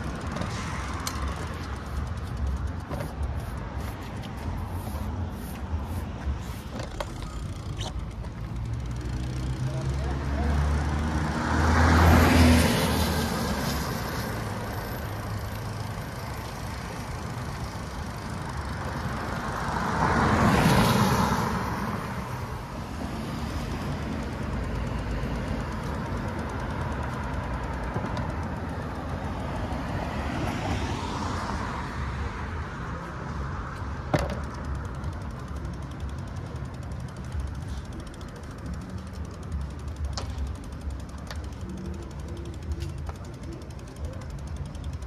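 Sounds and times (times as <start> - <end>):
cars passing on wet street: 0.0 - 38.2
low traffic rumble: 0.0 - 45.0.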